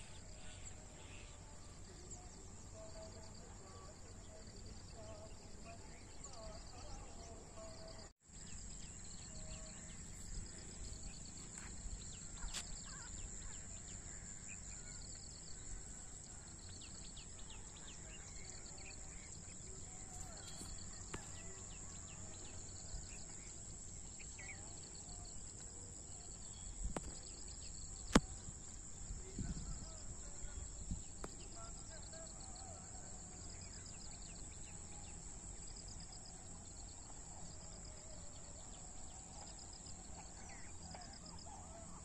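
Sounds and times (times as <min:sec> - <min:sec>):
faint bird chirps: 0:00.0 - 0:42.0
insect drone with pulsing trills: 0:00.0 - 0:42.0.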